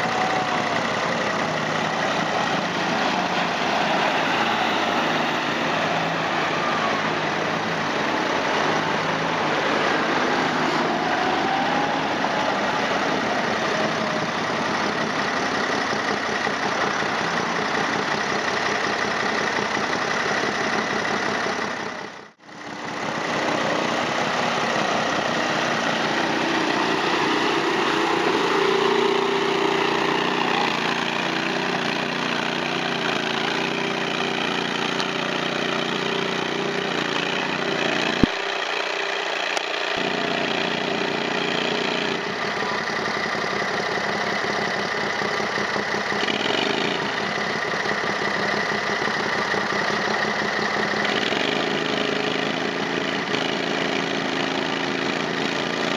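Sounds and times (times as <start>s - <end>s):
atv engines running: 0.0s - 55.9s.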